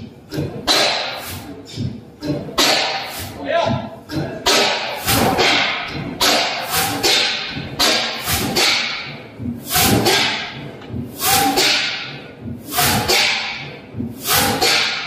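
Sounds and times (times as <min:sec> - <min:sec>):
diesel engine exhaust beats: 0:00.0 - 0:15.0.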